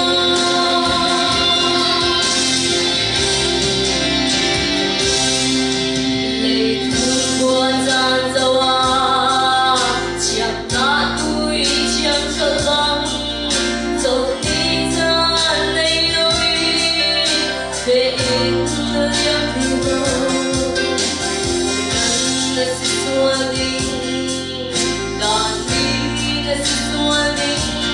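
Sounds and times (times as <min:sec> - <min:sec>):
woman singing into microphone: 0:00.0 - 0:03.5, 0:06.1 - 0:27.9
instrumental backing chords: 0:00.0 - 0:27.9.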